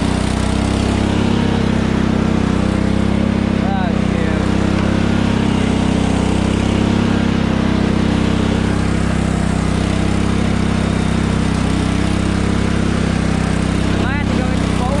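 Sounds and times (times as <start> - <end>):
lawn tractor engine running: 0.0 - 15.0.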